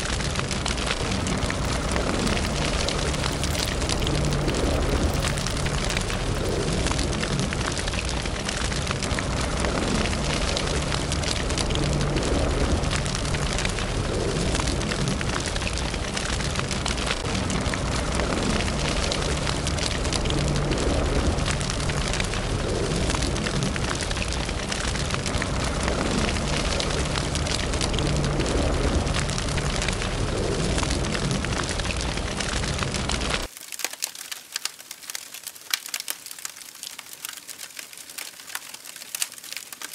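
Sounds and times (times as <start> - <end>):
low rushing of flames: 0.0 - 33.5
wood fire crackling: 0.0 - 39.9.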